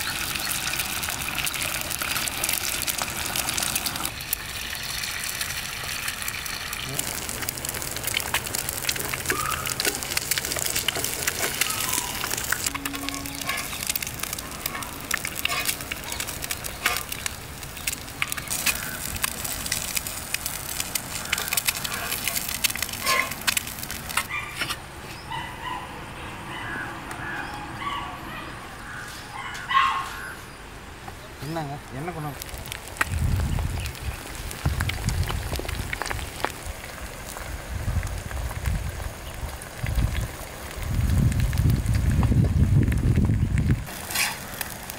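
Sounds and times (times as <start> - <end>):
eggs sizzling on a griddle: 0.0 - 24.3, 32.0 - 44.9.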